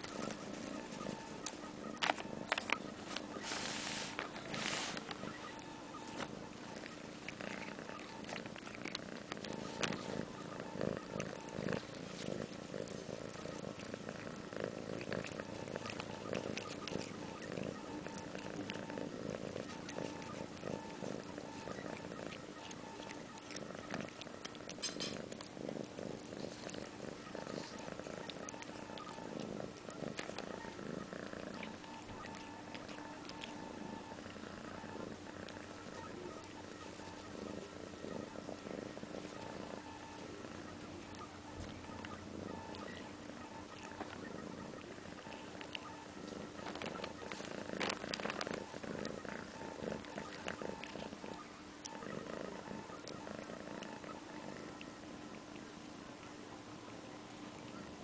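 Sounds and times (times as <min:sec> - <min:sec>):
crackle of grass being nibbled: 0:00.0 - 0:54.9
cat purring: 0:00.0 - 0:58.0.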